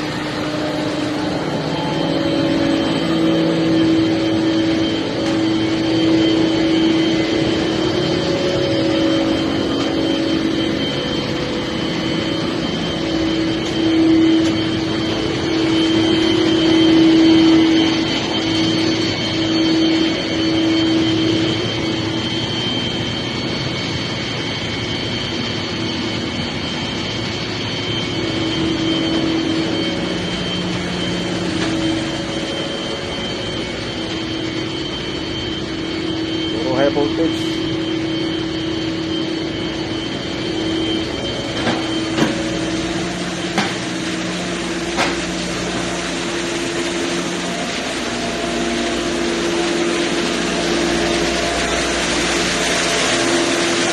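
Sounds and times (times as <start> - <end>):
engine room machinery din: 0.0 - 53.9
faint high whine: 0.0 - 53.9.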